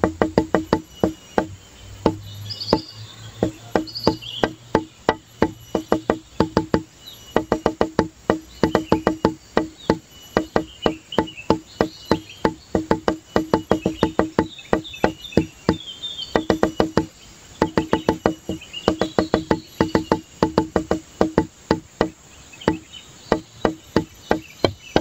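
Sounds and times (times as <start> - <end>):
high chirping sounds: 0.0 - 25.0
wood block percussion music: 0.0 - 25.0.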